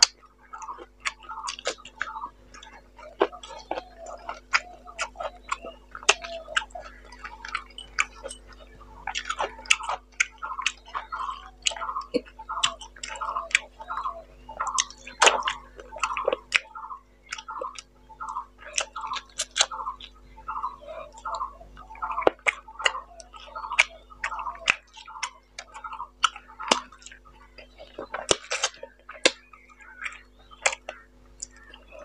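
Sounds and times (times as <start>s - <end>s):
wet chewing and lip-smacking: 0.0s - 32.0s.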